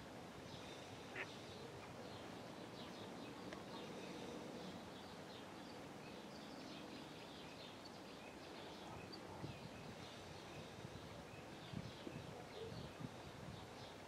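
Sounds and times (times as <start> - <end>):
low background noise: 0.0 - 14.0
small birds chirping: 0.4 - 14.0.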